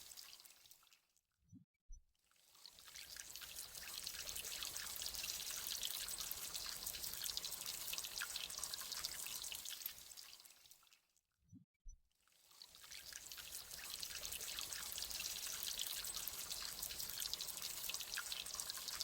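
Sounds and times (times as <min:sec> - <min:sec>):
water trickling and splashing: 0:00.0 - 0:01.0, 0:02.4 - 0:11.0, 0:12.4 - 0:19.0.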